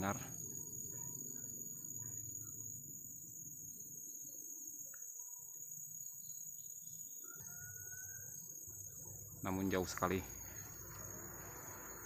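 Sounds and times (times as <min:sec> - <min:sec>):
insects droning high: 0:00.0 - 0:12.0.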